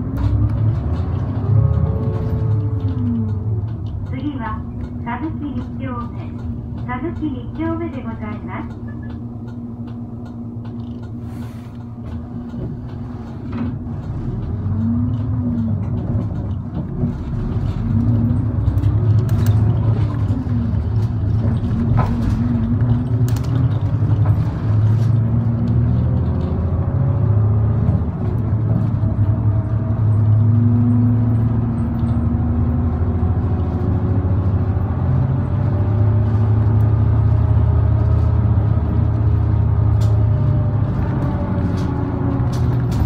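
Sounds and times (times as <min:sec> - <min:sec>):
bus engine from inside cabin: 0:00.0 - 0:43.0.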